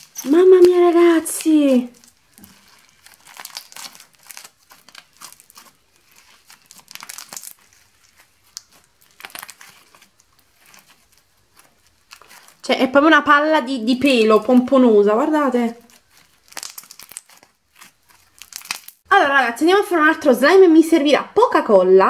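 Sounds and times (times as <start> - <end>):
sticky slime crackling: 0.0 - 19.1.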